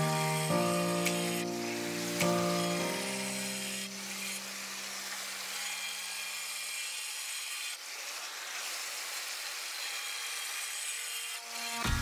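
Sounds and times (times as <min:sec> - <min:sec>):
angle grinder grinding stone: 0:00.0 - 0:12.0.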